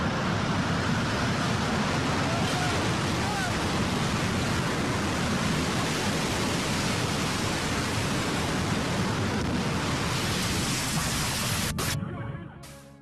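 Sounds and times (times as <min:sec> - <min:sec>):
loud steady rushing noise: 0:00.0 - 0:12.0.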